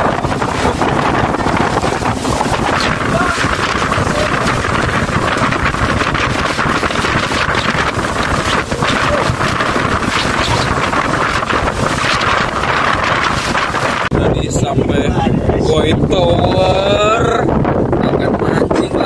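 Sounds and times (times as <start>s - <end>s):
boat engine: 0.0s - 19.0s
water beneath boat: 0.0s - 19.0s
wind buffeting microphone: 0.0s - 19.0s.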